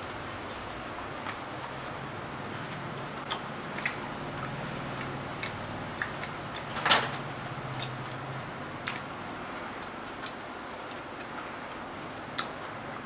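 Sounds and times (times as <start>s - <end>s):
crunchy food being chewed: 0.0s - 13.0s.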